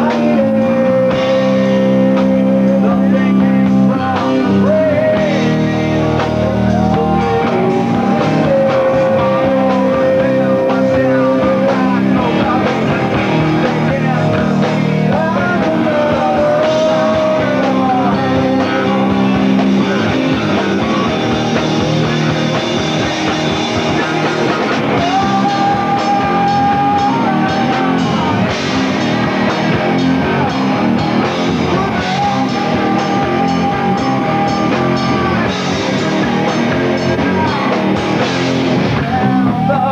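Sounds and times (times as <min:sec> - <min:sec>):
drum kit: 0:00.0 - 0:39.9
electric guitars: 0:00.0 - 0:39.9
singer holding long notes: 0:00.0 - 0:39.9.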